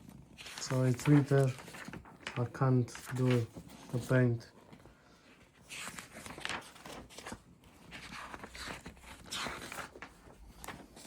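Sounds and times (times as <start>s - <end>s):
packaging rustling and handling: 0.0s - 4.9s, 5.5s - 11.0s.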